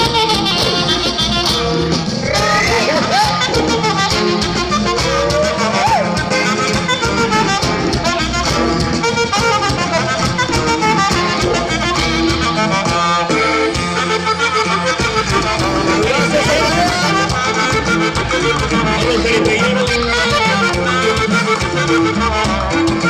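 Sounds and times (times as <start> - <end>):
bass and drum beat: 0.0 - 23.0
saxophone band playing: 0.0 - 23.0.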